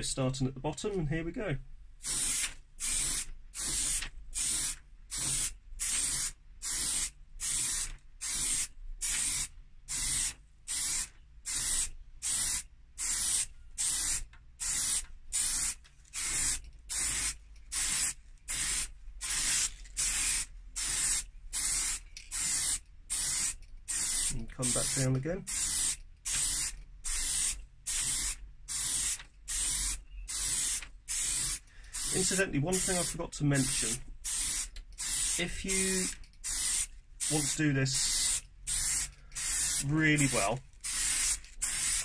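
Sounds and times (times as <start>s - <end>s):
aerosol spray can hissing: 2.0s - 42.0s.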